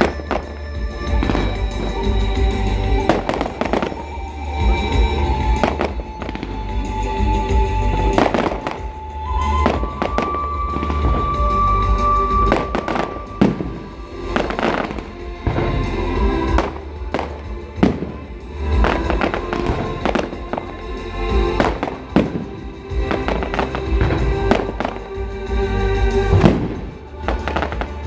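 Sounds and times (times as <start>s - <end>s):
fireworks bursting with sharp bangs: 0.0s - 28.0s
music: 0.0s - 28.0s.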